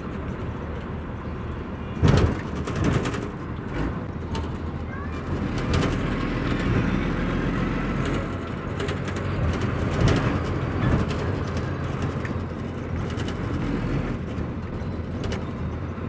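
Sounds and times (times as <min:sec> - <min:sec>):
bus diesel engine drone: 0:00.0 - 0:16.0
road noise: 0:00.0 - 0:16.0.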